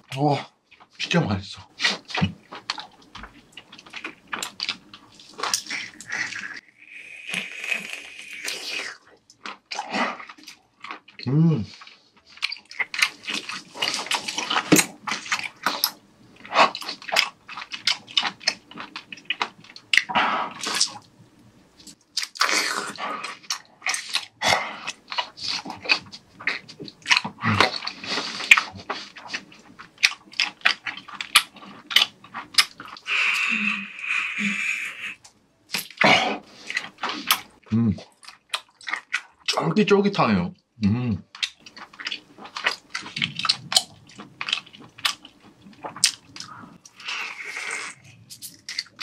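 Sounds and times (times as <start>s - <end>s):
person chewing wetly: 1.7s - 39.6s, 41.2s - 49.0s.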